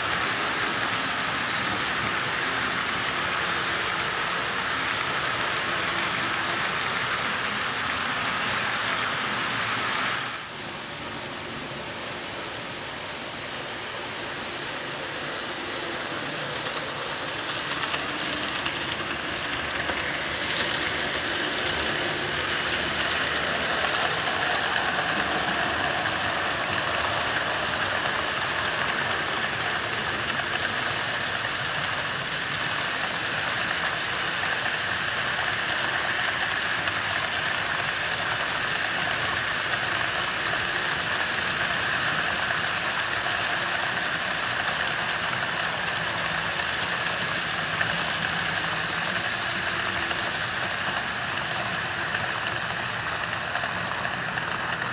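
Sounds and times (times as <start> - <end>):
model train wheels rumbling: 0.0 - 54.9.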